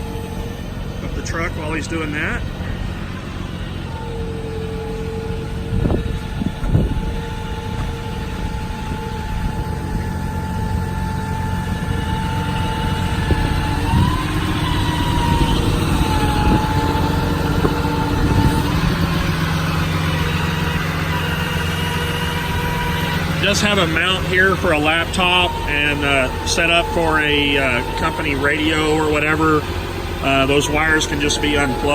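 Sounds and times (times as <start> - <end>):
diesel truck engine running: 0.0 - 31.9
hydraulic pump whine: 0.0 - 31.9.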